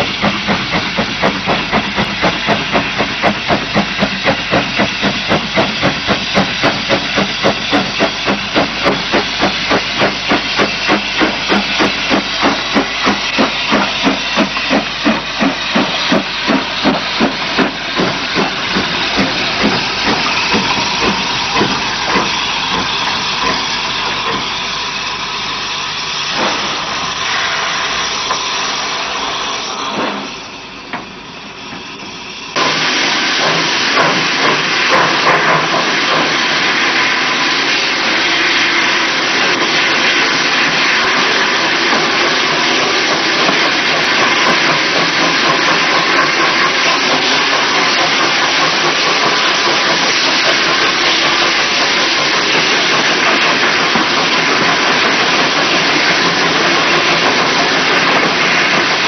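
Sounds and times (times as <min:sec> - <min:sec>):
locomotive hissing and rumbling: 0:00.0 - 0:59.0
steam locomotive chuffing: 0:00.0 - 0:59.0.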